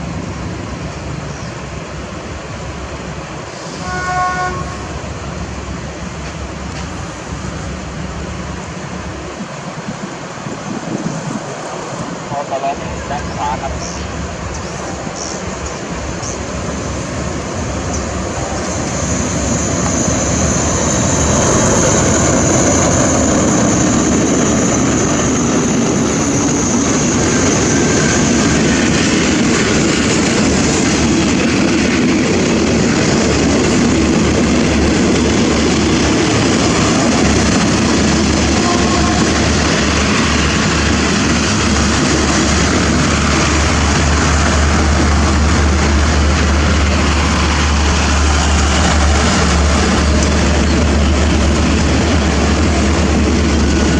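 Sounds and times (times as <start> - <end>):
diesel train rumbling: 0.0 - 53.9.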